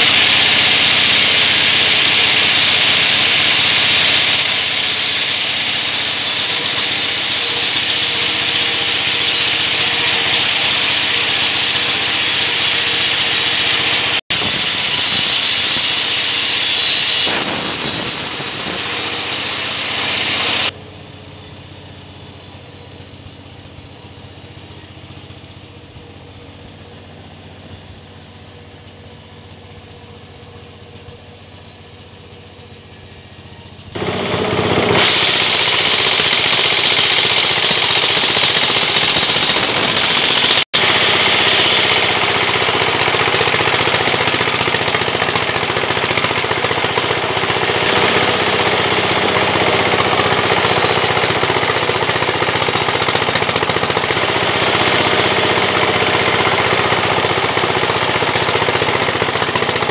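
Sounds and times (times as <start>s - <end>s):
saw blade cutting log: 0.0s - 25.6s, 26.8s - 59.9s
band saw running: 0.0s - 59.9s.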